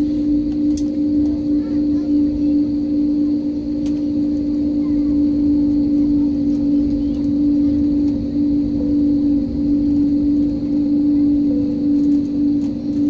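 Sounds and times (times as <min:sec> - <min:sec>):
jet engine hum: 0:00.0 - 0:13.0
rumble: 0:00.0 - 0:13.0.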